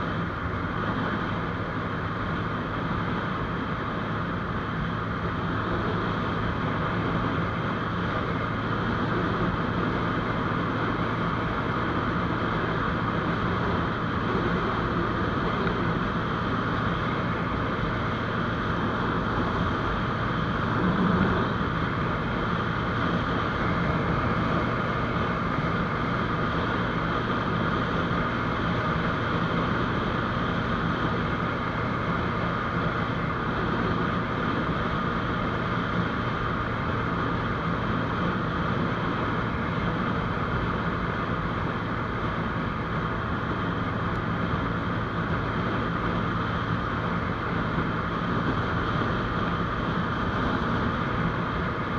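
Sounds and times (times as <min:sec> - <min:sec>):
wind and road noise: 0:00.0 - 0:51.9.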